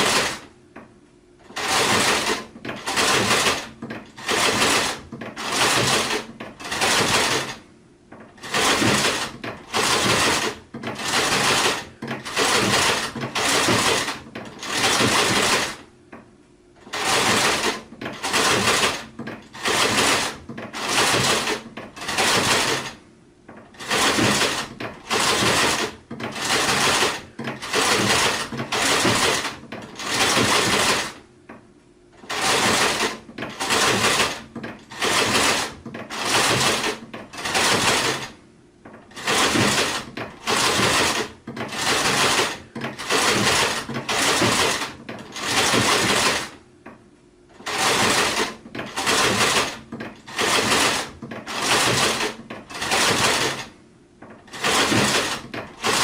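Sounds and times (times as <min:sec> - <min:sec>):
sewing machine stitching: 0:00.0 - 0:00.5, 0:01.4 - 0:15.9, 0:16.8 - 0:31.2, 0:32.2 - 0:46.6, 0:47.5 - 0:56.0.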